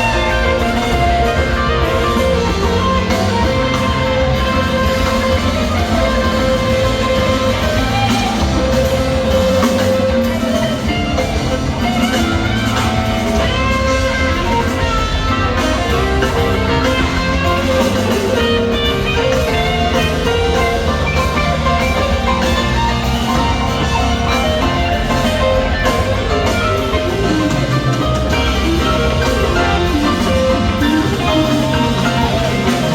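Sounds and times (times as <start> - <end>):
bass guitar: 0.0 - 32.9
drum kit: 0.0 - 32.9
electric guitar lines: 0.0 - 32.9.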